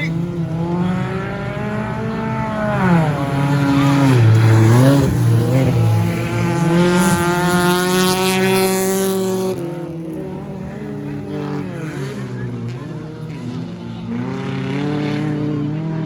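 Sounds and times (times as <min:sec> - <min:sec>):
racing car engines revving: 0:00.0 - 0:16.0.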